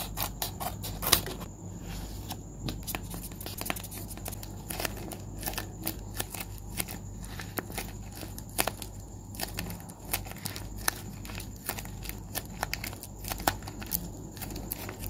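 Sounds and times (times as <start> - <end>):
paper crinkling and crackling: 2.2 - 15.0.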